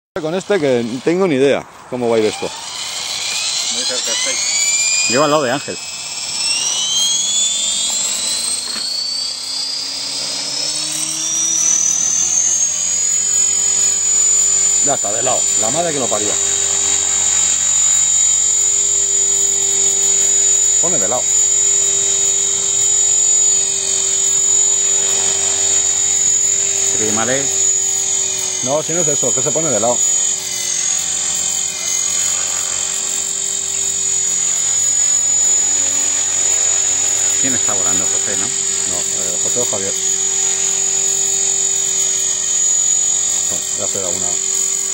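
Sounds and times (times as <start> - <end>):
model helicopter motor whining: 0.2 - 44.9.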